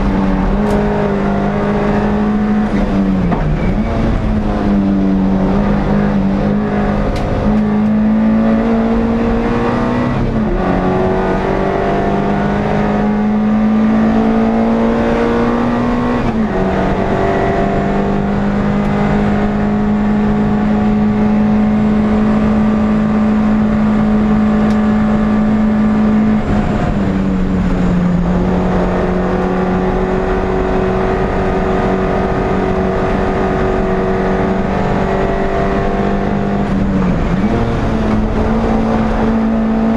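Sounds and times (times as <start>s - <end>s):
race car engine pulling hard: 0.0s - 39.9s.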